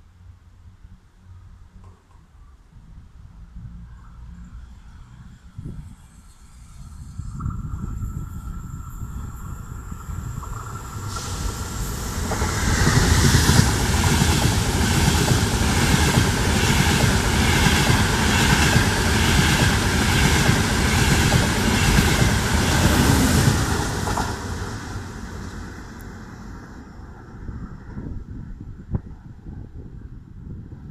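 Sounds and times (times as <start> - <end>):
high-speed train passing: 2.8 - 30.9.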